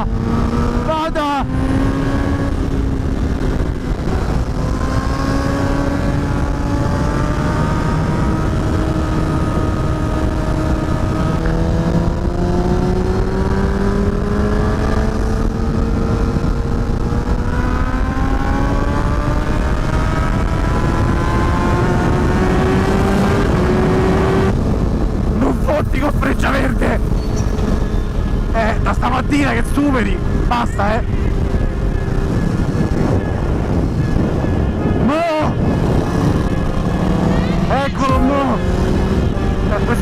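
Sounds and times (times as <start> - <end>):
motorcycle engine accelerating: 0.0 - 40.0
wind rumble on microphone: 0.0 - 40.0.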